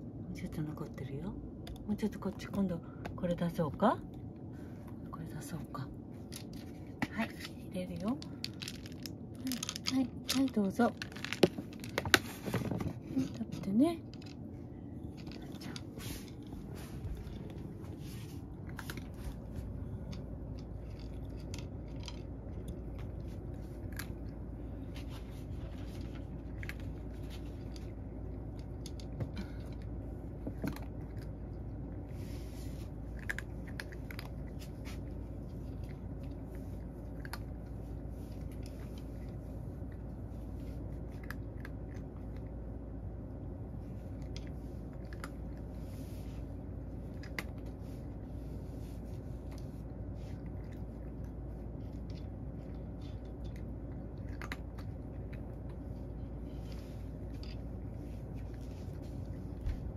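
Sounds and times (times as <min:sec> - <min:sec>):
low steady hum: 0:00.0 - 0:59.9
cat crunching dry kibble: 0:06.0 - 0:59.9.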